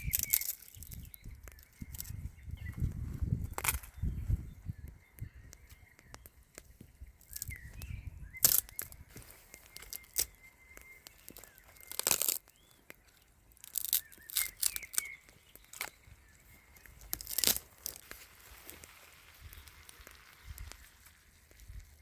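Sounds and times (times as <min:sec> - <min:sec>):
faint bird chirps: 0:00.0 - 0:22.0
rustling and crackling: 0:00.0 - 0:22.0.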